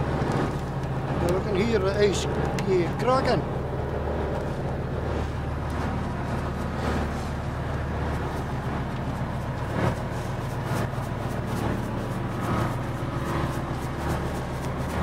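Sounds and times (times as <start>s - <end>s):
boat engine droning: 0.0s - 15.0s
salt ticking on deck: 0.0s - 15.0s.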